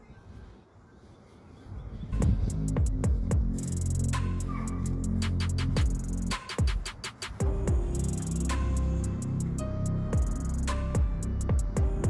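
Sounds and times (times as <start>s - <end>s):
electronic music with deep bass: 2.1s - 12.0s.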